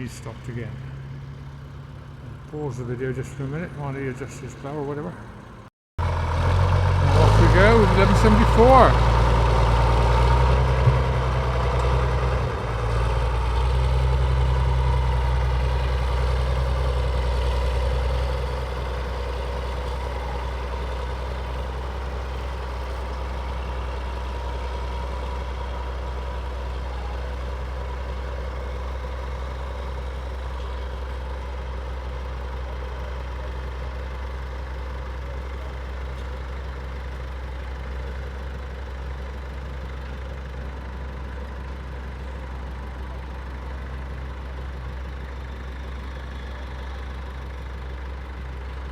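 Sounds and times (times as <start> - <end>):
tractor engine working: 0.0 - 48.9.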